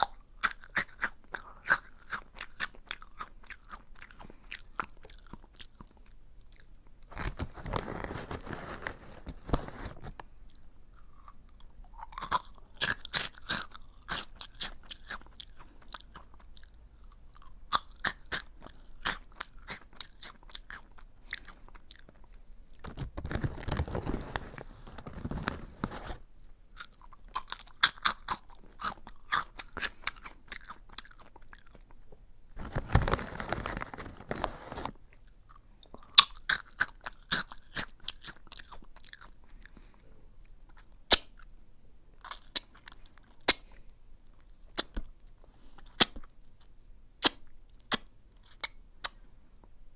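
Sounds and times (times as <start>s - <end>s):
crunching and chewing snack: 0.0s - 41.5s, 42.2s - 49.3s.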